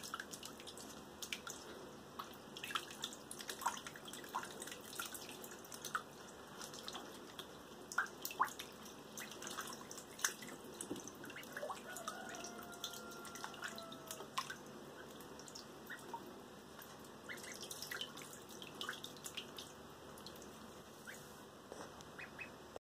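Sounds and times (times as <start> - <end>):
water lapping: 0.0 - 21.3
ducklings splashing in water: 0.0 - 21.4, 22.2 - 22.6.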